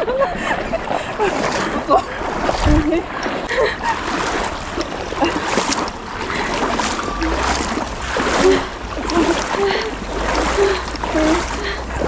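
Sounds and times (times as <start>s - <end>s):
feet wading through shallow water: 0.0s - 12.0s
water splashing: 0.0s - 12.0s.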